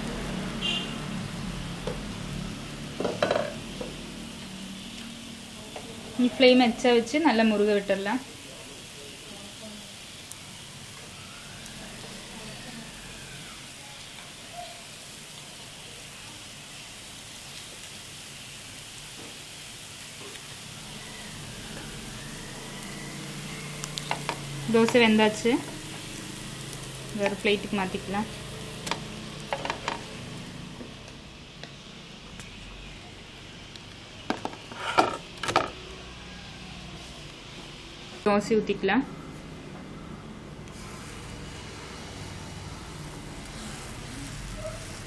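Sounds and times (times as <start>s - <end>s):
oil sizzling under frying dosa: 0.0s - 45.0s.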